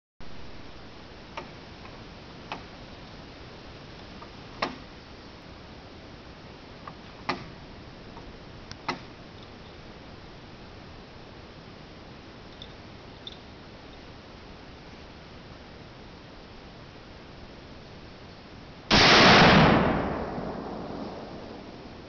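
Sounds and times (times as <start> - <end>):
background hiss: 0.2 - 22.0.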